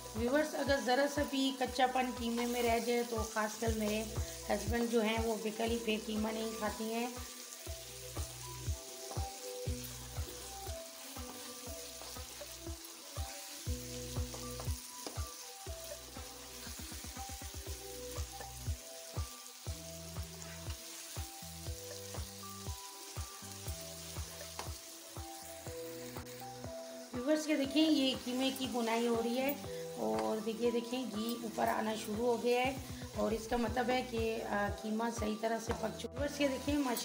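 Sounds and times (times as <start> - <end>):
mince sizzling in a wok: 0.0 - 37.0.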